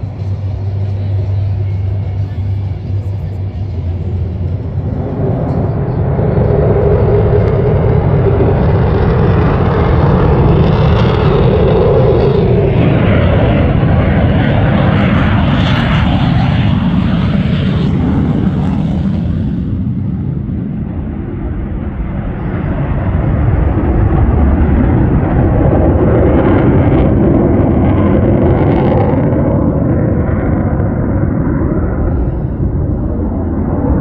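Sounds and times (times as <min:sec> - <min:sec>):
jet engines flying past: 0:00.0 - 0:34.0.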